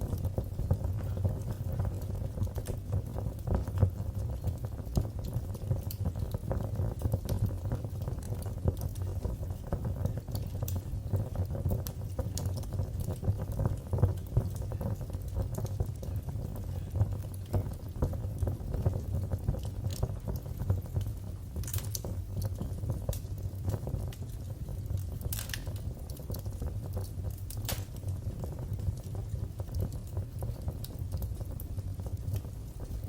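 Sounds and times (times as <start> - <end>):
sharp snaps of fire: 0.0 - 33.0
wood fire crackling: 0.0 - 33.0.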